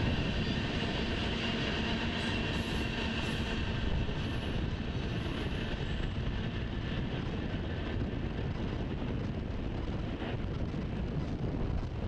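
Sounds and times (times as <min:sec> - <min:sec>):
freight train rumbling: 0:00.0 - 0:12.0
wind noise on microphone: 0:00.0 - 0:12.0.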